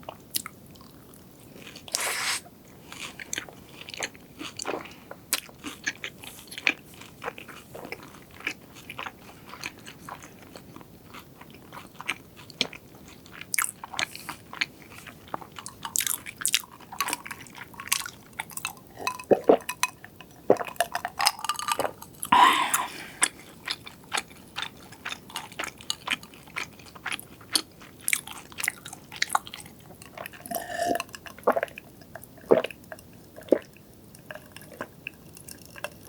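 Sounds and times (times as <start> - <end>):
chewing and biting food: 2.9 - 22.4, 23.2 - 36.0.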